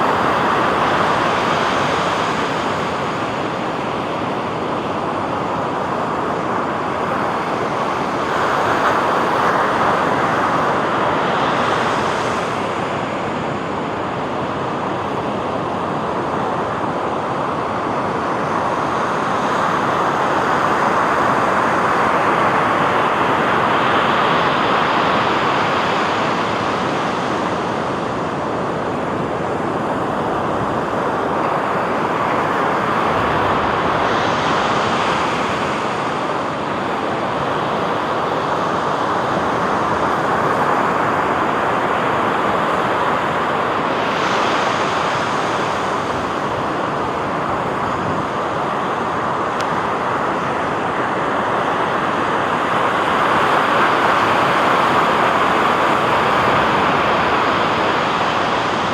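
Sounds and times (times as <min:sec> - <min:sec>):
sea waves washing onto beach: 0:00.0 - 0:58.9.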